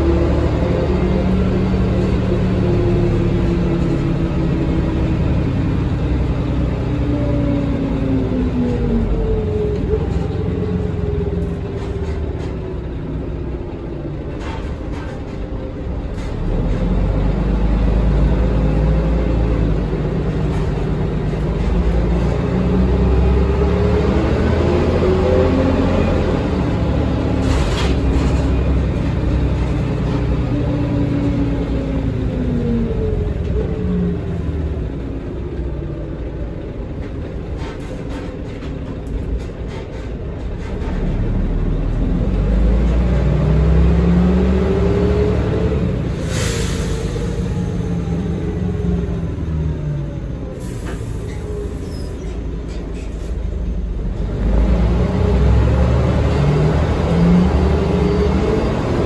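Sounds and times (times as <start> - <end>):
bus drivetrain rumble: 0.0 - 59.0.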